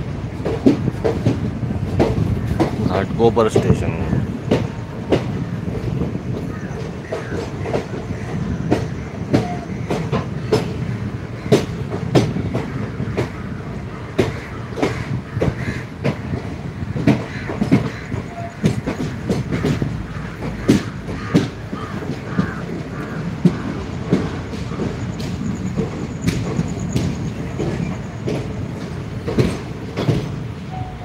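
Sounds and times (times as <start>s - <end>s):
train coach rumbling: 0.0s - 31.0s
wheels clacking over rail joints: 0.0s - 31.0s.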